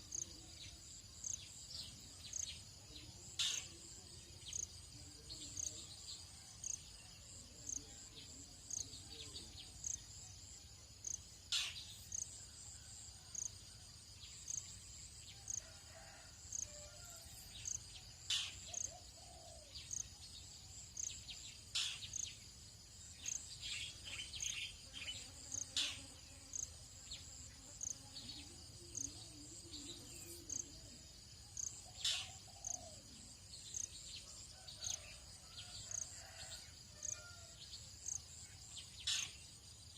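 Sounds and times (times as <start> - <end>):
cricket chirping: 0.0 - 39.9
high insect drone: 0.0 - 39.9.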